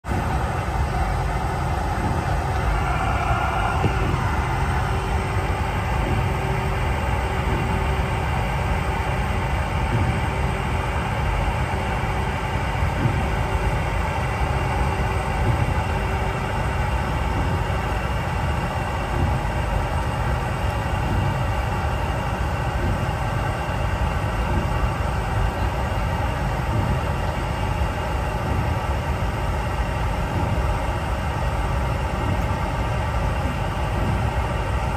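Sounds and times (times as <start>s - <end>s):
airliner cabin rumble and hiss: 0.1s - 34.9s.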